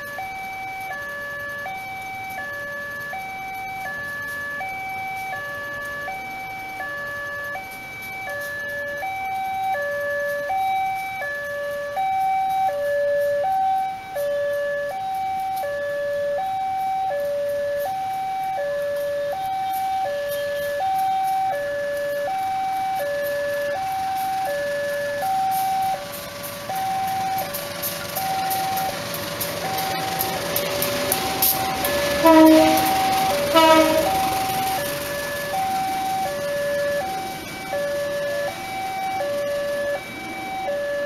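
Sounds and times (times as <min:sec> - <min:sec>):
level crossing two-tone alarm: 0:00.0 - 0:41.0.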